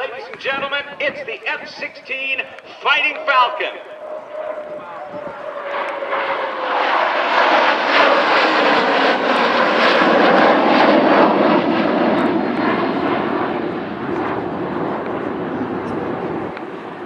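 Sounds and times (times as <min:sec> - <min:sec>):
jet flying past: 0:00.0 - 0:17.0.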